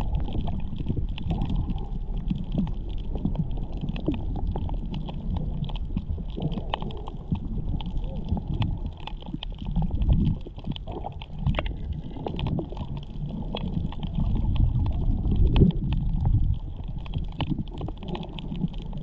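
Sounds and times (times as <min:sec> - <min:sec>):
muffled underwater water sloshing: 0:00.0 - 0:19.0
sharp clicks and crackles: 0:00.0 - 0:19.0.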